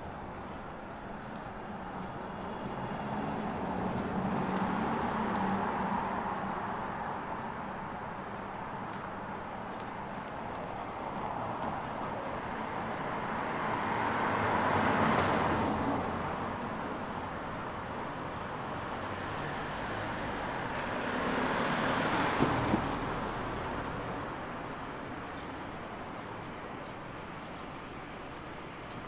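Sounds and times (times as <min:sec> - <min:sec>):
cars passing by: 0:00.0 - 0:29.0.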